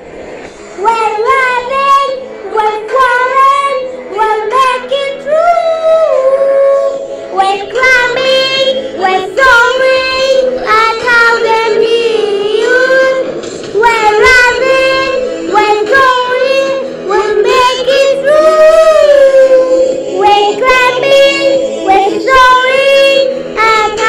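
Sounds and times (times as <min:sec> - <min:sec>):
girl singing into microphone: 0:00.8 - 0:24.0.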